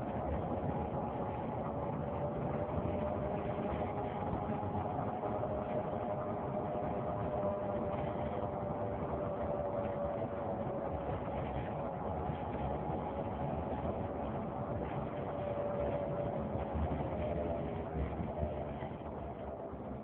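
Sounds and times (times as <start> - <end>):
road noise: 0.0 - 20.0
wheel whine: 0.0 - 20.0.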